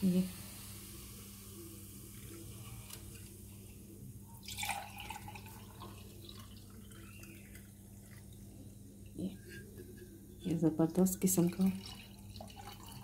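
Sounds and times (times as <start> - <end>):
low steady hum: 0.0 - 13.0
drink pouring into a glass: 0.8 - 10.2, 11.3 - 13.0.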